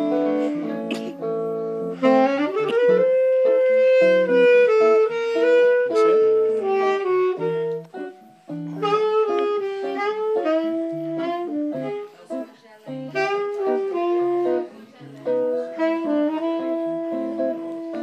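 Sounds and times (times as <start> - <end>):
guitar chords: 0.0 - 18.0
tenor saxophone melody: 0.0 - 18.0.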